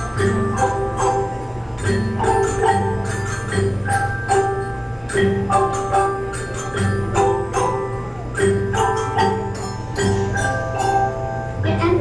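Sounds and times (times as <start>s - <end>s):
ensemble playing struck notes: 0.0s - 12.0s.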